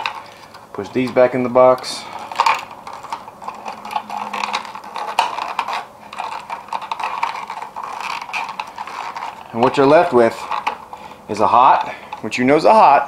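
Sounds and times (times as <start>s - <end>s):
wires scraping against plastic box: 0.0s - 12.4s.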